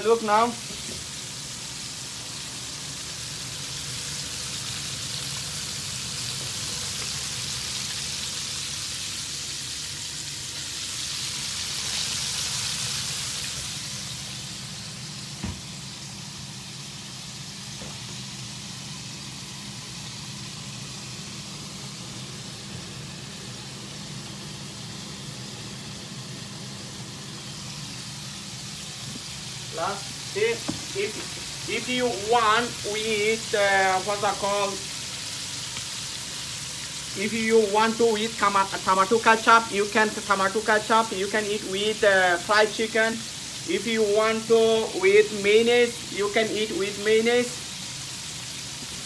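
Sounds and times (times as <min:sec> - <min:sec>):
chicken frying in oil: 0:00.0 - 0:49.0.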